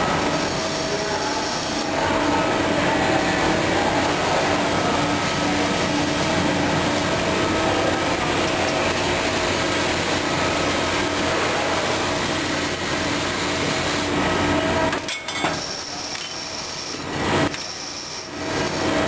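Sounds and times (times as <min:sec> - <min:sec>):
machinery running with low hum: 0:00.0 - 0:19.0.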